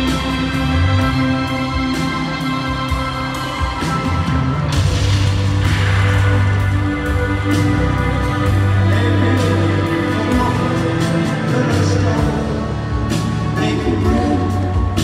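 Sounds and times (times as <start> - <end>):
live instrumental band music: 0.0 - 15.0.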